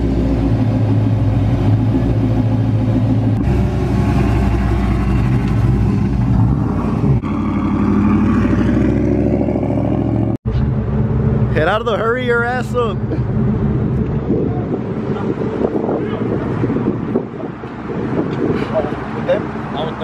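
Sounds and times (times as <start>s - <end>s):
truck engines rumbling: 0.0s - 20.0s.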